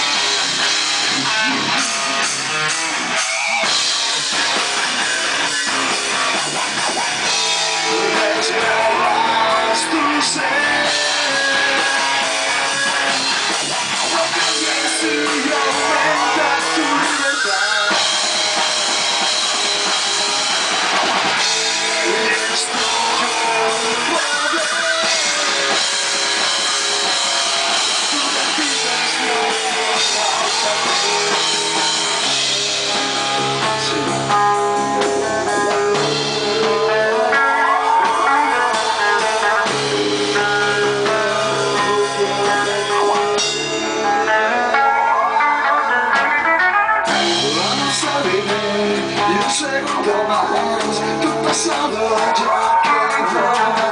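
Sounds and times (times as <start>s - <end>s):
drum kit: 0.0s - 53.9s
electric guitar: 0.0s - 53.9s
person singing: 7.0s - 20.6s, 21.4s - 53.9s.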